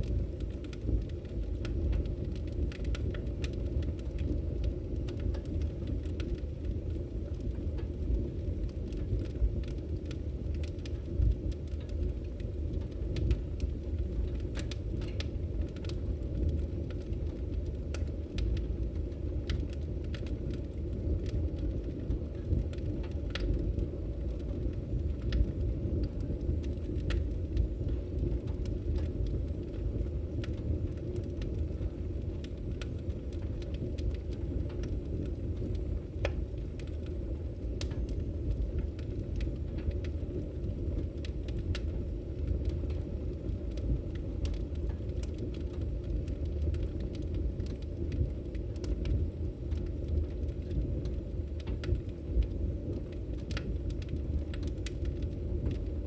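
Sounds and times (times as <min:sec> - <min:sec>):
fire crackling and popping: 0:00.0 - 0:56.0
wood fire roaring: 0:00.0 - 0:56.0.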